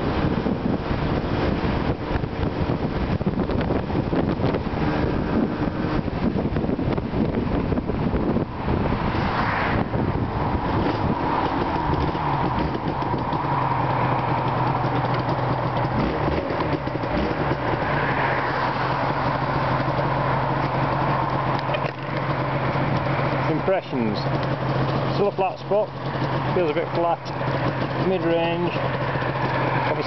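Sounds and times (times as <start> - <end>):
two-stroke motorcycle engine: 0.0 - 30.0
wind and road noise: 0.0 - 30.0.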